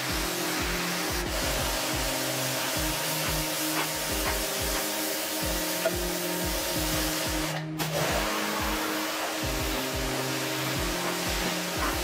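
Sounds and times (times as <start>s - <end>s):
background music with a beat: 0.0s - 12.0s
pressure washer spraying water: 0.0s - 12.0s.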